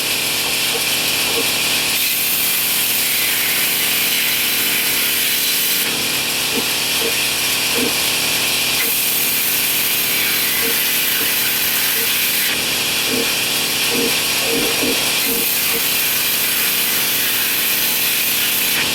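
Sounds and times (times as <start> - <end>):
power tool hissing on wood: 0.0 - 18.9.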